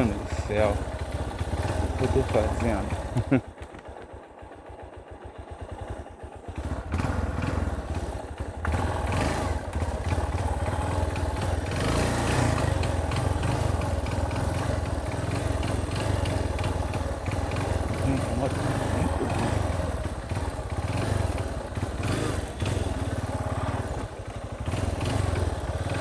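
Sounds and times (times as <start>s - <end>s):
motorcycle engine: 0.0s - 26.0s.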